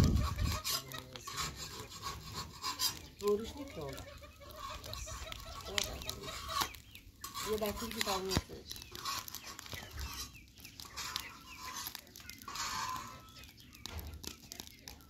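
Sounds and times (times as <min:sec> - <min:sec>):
hen clucking: 0:00.0 - 0:15.0
metal spatula on griddle: 0:00.0 - 0:15.0.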